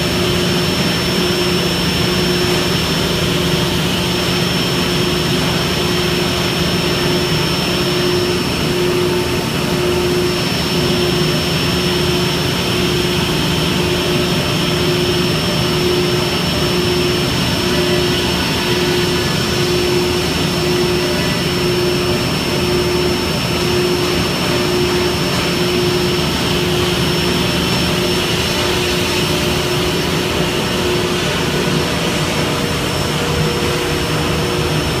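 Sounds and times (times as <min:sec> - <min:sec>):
beam saw running: 0:00.0 - 0:35.0.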